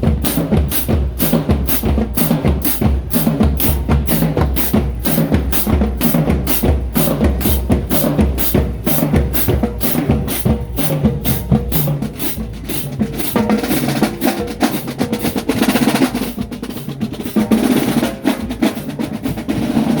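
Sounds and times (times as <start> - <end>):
drumline playing cadence: 0.0 - 20.0.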